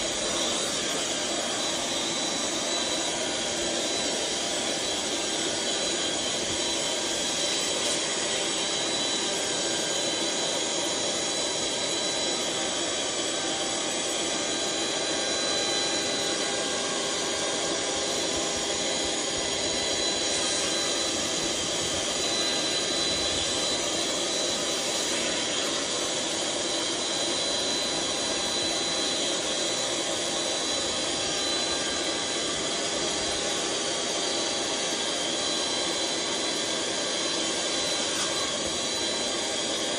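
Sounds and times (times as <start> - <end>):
electric air pump running: 0.0 - 39.9.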